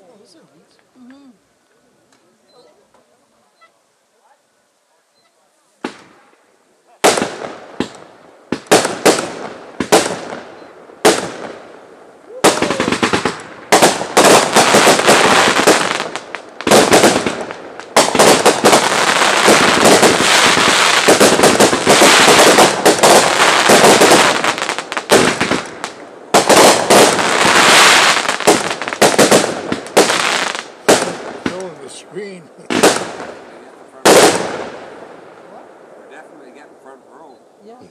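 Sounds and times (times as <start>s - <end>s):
fireworks bangs and crackling: 5.8s - 37.9s.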